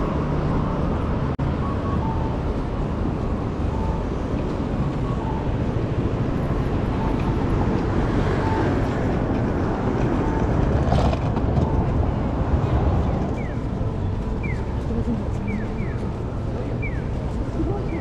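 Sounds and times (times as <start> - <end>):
cars passing: 0.0 - 18.0.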